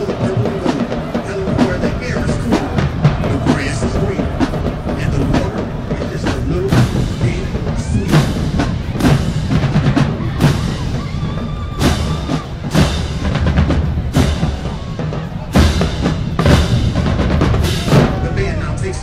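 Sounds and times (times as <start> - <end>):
bass drums: 0.0 - 19.0.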